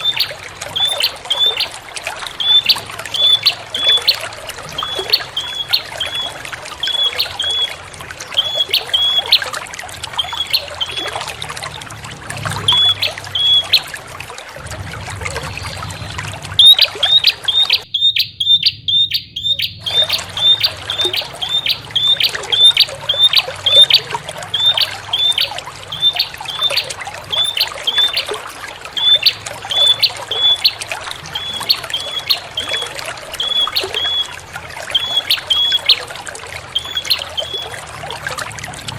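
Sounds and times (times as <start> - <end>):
bird chirping: 0.0 - 7.8, 8.4 - 9.5, 10.2 - 11.1, 12.6 - 13.9, 15.9 - 34.3, 34.9 - 36.1, 36.8 - 37.8
trickle of running water: 0.0 - 38.9.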